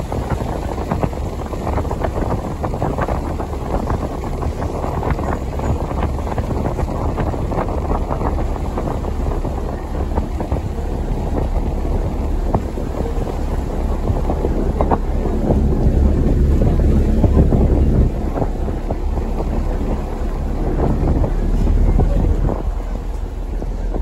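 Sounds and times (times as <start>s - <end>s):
ferry engine rumble: 0.0s - 24.0s
rush of boat wake: 0.0s - 24.0s
wind buffeting microphone: 0.0s - 24.0s.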